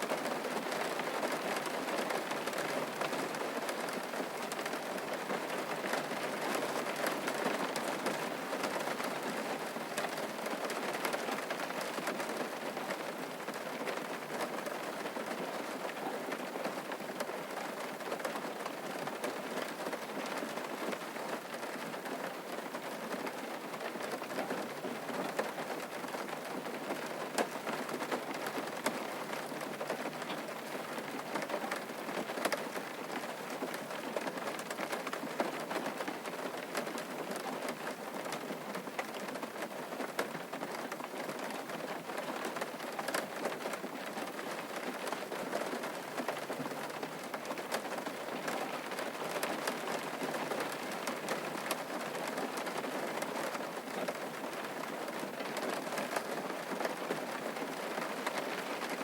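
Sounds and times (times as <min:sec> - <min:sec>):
raindrops pattering: 0:00.0 - 0:59.0
steady rain: 0:00.0 - 0:59.0.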